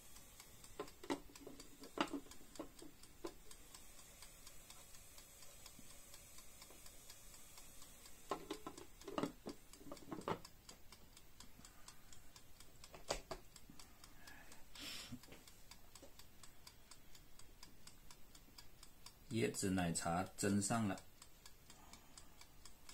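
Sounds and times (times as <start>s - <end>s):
fast faint ticking: 0.0s - 22.9s.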